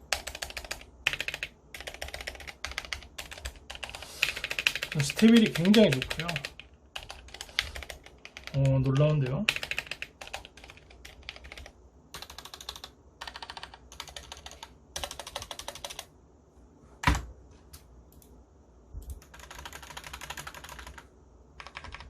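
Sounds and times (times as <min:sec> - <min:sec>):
mechanical keyboard typing: 0:00.0 - 0:16.1, 0:19.0 - 0:22.0.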